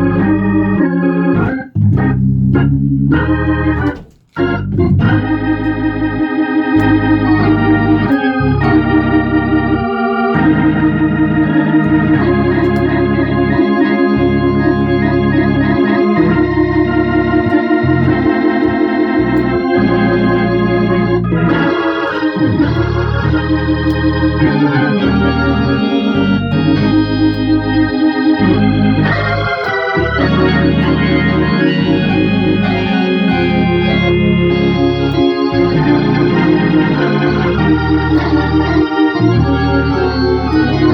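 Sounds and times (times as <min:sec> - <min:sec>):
organ chords through rotating speaker: 0:00.0 - 0:40.9.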